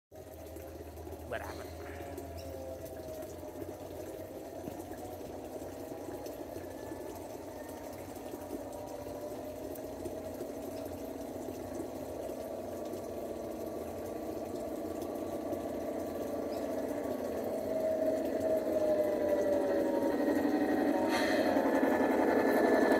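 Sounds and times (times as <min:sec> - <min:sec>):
diesel engine sound from speaker: 0:00.1 - 0:22.9.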